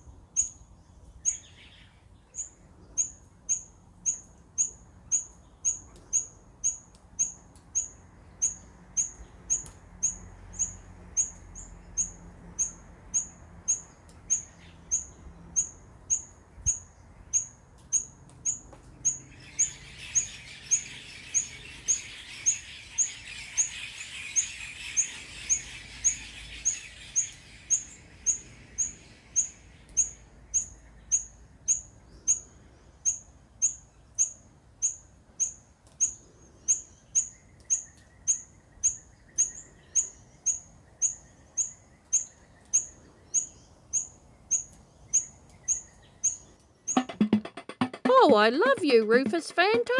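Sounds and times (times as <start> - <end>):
bird sharp chip calls: 2.3 - 47.4.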